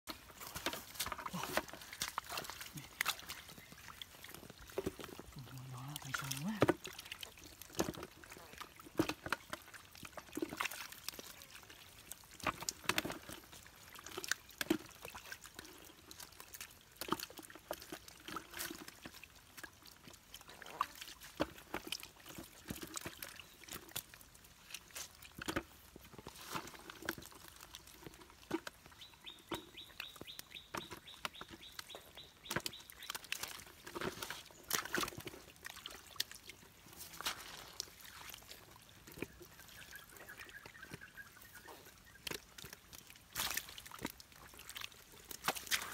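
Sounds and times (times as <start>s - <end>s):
fish thrashing in mud: 0.1s - 41.0s, 41.8s - 45.9s
splashing in muddy water: 0.1s - 45.9s.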